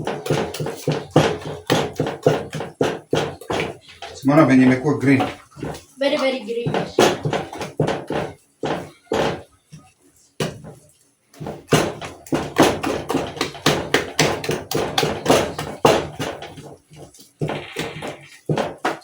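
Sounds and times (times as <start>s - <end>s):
mashing food in a pot: 0.0s - 19.0s.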